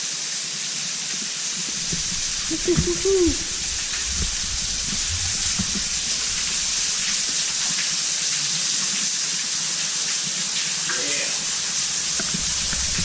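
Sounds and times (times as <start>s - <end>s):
waterfall splashing: 0.2s - 13.0s.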